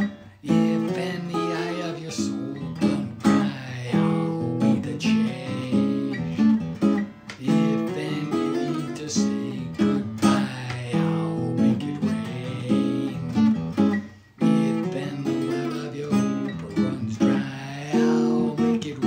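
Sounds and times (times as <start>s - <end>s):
man singing: 0.0s - 6.6s, 7.4s - 19.0s
acoustic guitar strumming chords: 0.0s - 19.0s.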